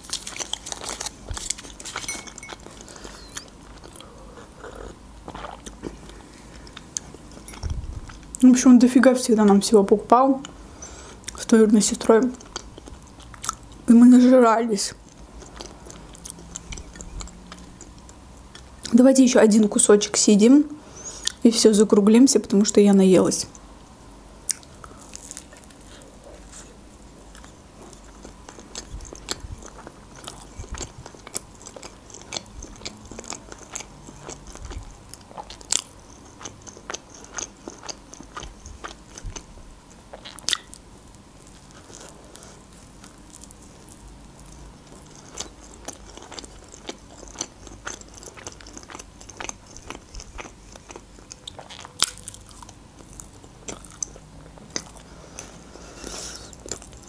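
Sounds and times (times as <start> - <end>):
person chewing: 0.0 - 8.4, 12.4 - 13.9, 15.0 - 18.9, 24.5 - 57.0.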